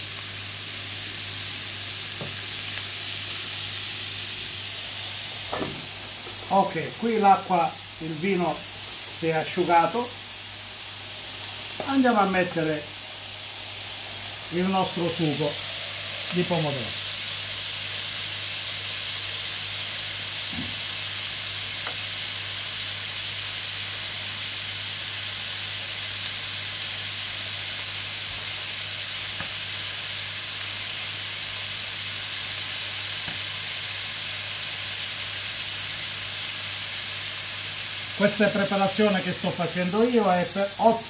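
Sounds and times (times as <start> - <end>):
mushrooms sizzling in a pan: 0.0 - 41.0.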